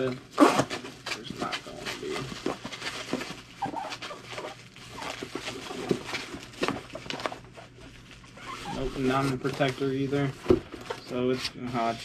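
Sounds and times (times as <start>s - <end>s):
hands rummaging in cardboard box: 0.0s - 12.0s.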